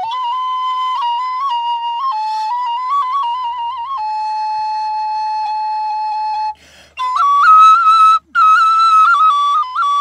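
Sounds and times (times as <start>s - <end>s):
wooden flute folk melody: 0.0s - 10.0s.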